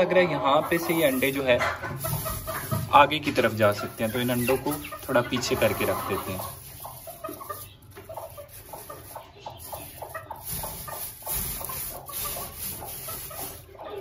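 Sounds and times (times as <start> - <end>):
chicken clucking: 0.0 - 14.0
straw rustling: 0.6 - 14.0.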